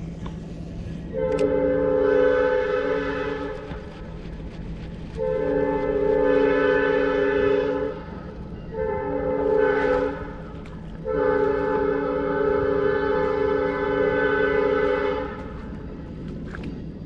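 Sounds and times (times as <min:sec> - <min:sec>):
train air horn blasts: 0:01.0 - 0:03.9, 0:05.1 - 0:15.9.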